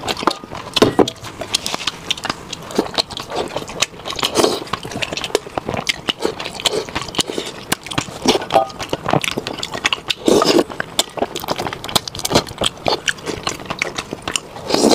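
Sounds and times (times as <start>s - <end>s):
lip smacks: 0.0s - 14.9s
wet chewing: 0.0s - 14.9s
sucking slurps: 1.2s - 14.9s.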